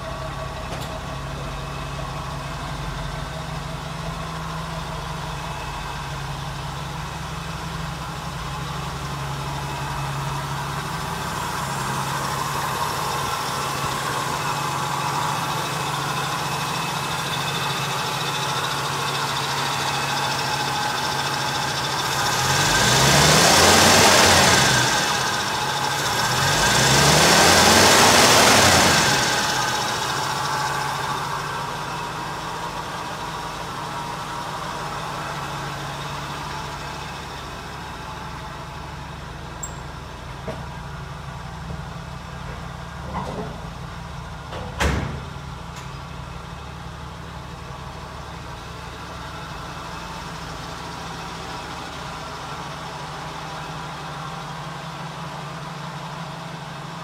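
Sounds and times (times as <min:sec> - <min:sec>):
engine blipping and idling: 0:00.0 - 0:44.6, 0:45.2 - 0:57.0.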